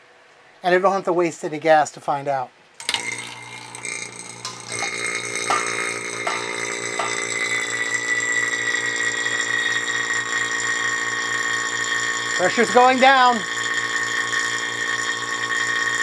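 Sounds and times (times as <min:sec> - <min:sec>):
vacuum pump running: 0:02.8 - 0:16.0.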